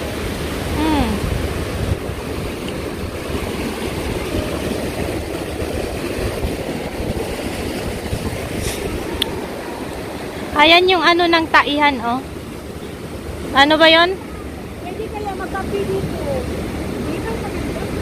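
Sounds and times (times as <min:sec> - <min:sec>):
water rushing over rocks: 0:00.0 - 0:18.0
wind buffeting microphone: 0:00.0 - 0:18.0.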